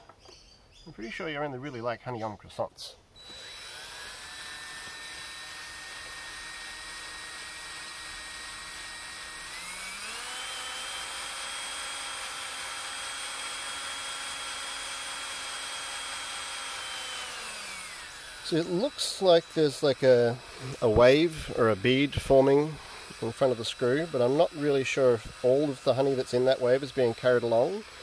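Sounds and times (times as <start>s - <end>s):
cordless drill motor whining: 3.2s - 28.0s.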